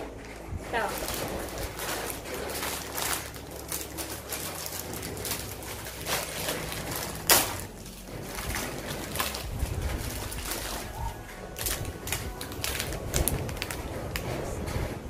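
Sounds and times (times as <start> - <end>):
plastic snack packet crackling: 0.7 - 14.8.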